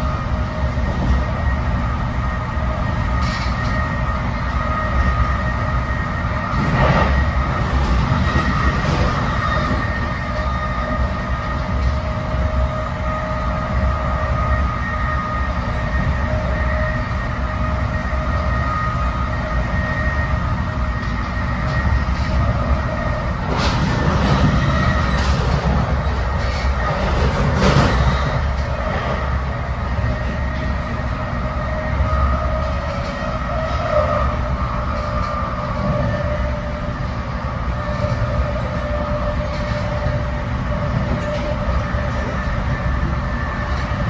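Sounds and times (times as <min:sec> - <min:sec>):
train coach rumble: 0:00.0 - 0:44.0.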